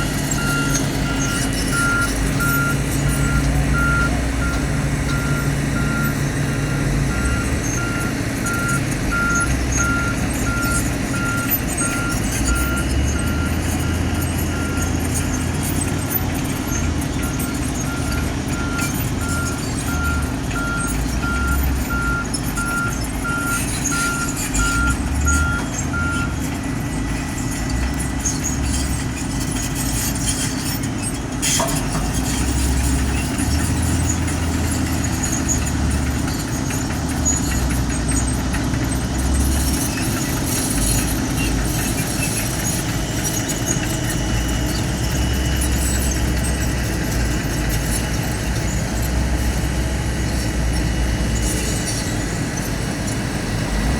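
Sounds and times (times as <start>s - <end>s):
heavy machinery engine droning: 0.0s - 53.9s.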